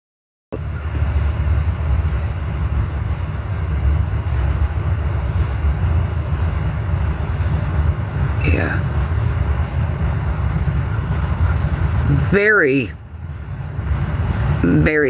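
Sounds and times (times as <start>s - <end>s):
train rumbling past: 0.6s - 15.0s.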